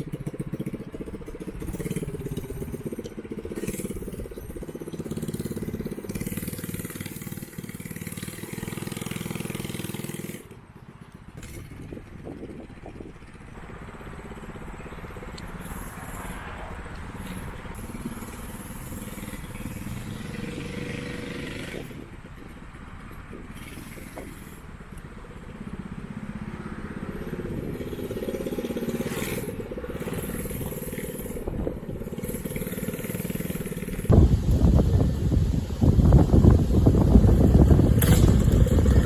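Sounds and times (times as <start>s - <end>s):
wind buffeting microphone: 0.0s - 10.2s, 11.3s - 39.0s
single-cylinder engine running: 0.0s - 39.0s.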